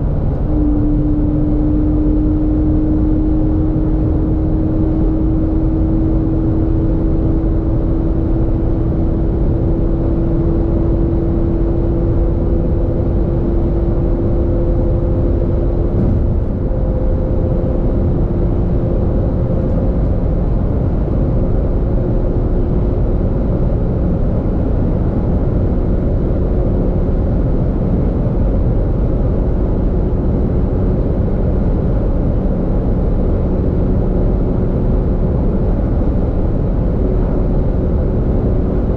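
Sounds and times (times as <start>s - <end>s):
car engine drone under load: 0.0s - 38.9s
road noise: 0.0s - 38.9s
wind noise: 0.0s - 38.9s.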